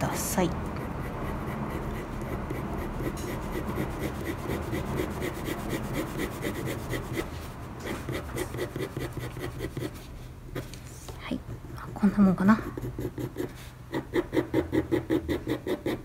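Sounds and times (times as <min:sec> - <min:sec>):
pencil shading on paper: 0:00.0 - 0:10.8, 0:11.7 - 0:16.0.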